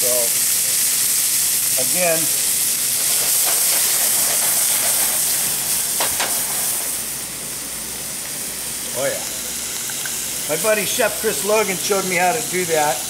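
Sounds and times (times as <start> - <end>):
fish sizzling in a hot pan: 0.0 - 13.0.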